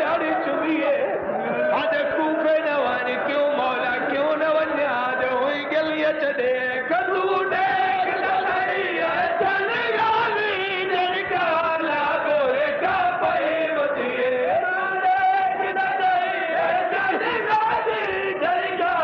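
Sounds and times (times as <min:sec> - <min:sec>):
man chanting a mournful lament: 0:00.0 - 0:19.0.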